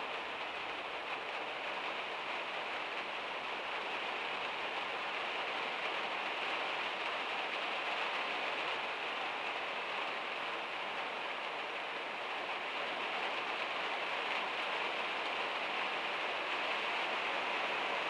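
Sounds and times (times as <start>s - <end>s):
heavy rain on a metal roof: 0.0s - 18.0s.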